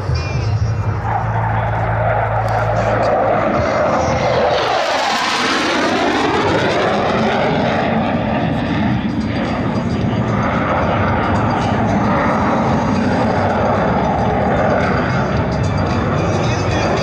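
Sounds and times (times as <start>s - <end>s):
jet roar passing by: 0.0s - 17.0s.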